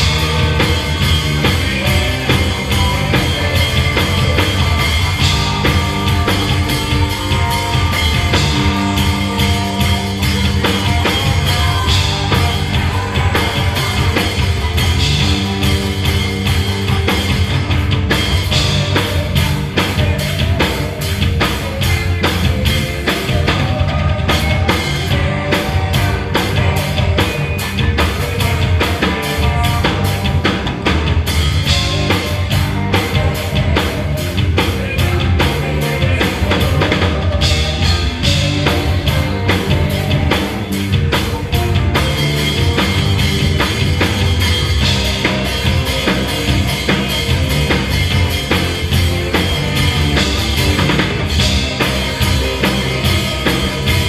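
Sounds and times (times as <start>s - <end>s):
bass guitar: 0.0s - 54.0s
drum kit beat: 0.0s - 54.0s
electric guitars: 0.0s - 54.0s
keyboard: 0.0s - 54.0s.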